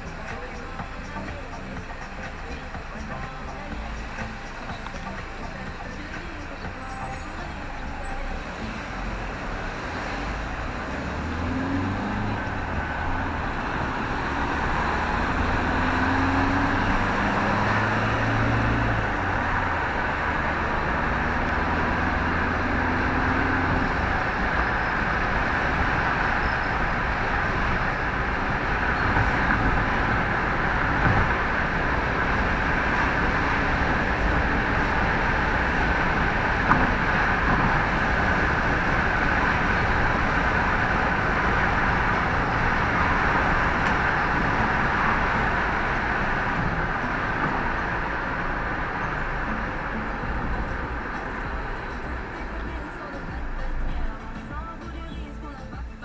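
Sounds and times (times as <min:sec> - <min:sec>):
tyres rumbling on road: 0:00.0 - 0:56.0
vehicle engine accelerating: 0:00.0 - 0:56.0.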